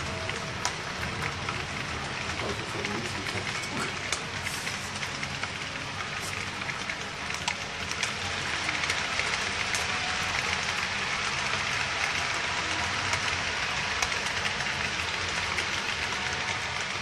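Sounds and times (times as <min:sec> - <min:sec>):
model train wheels rattling: 0:00.0 - 0:17.0.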